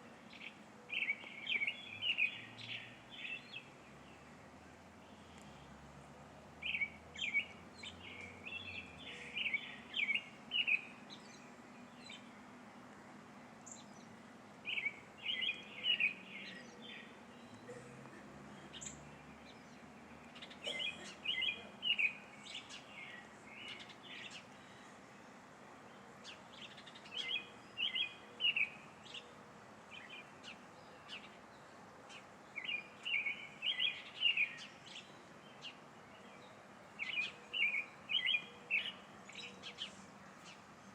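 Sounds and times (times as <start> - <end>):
bird chirps: 0.3 - 4.2, 6.6 - 12.4, 13.6 - 25.0, 25.9 - 40.9.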